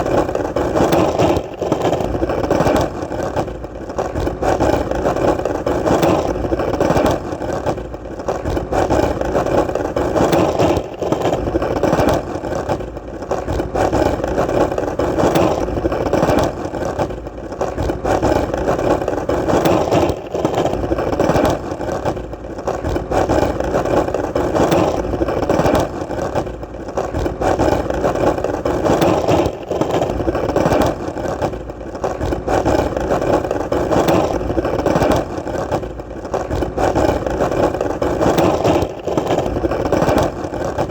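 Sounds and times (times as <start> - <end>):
skateboard wheels rolling: 0.0 - 40.9.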